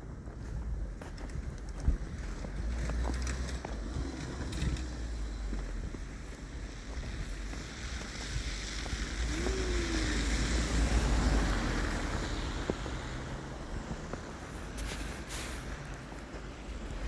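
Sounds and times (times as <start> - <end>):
wind buffeting microphone: 0.0 - 14.8
outdoor rush: 0.0 - 17.0.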